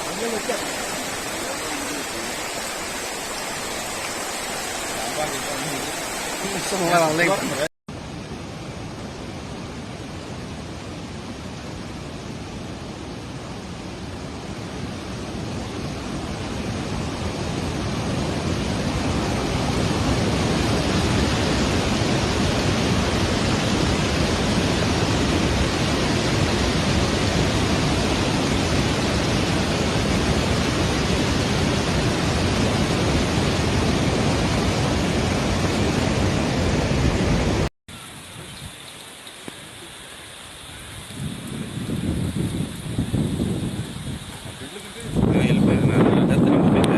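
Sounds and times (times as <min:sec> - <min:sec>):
rushing water roar: 0:00.0 - 0:46.9.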